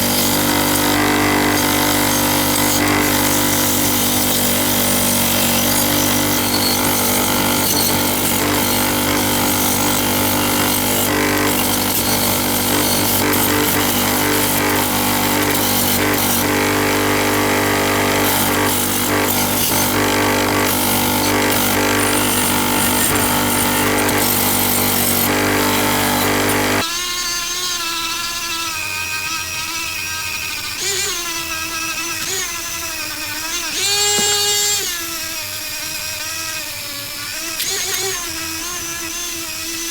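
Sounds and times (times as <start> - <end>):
power tool with harsh hiss: 0.0 - 39.9.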